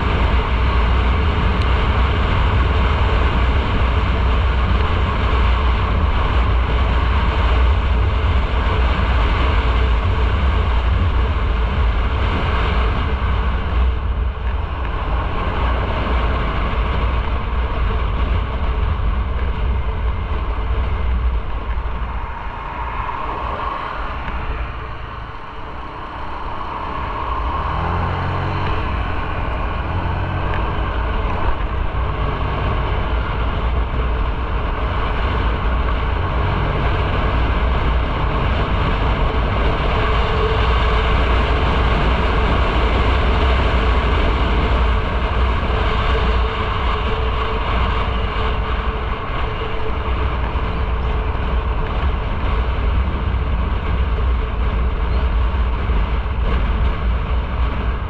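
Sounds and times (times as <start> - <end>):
motorcycle engine running: 0.0 - 22.8, 24.0 - 58.0
wind rumble on microphone: 0.0 - 58.0.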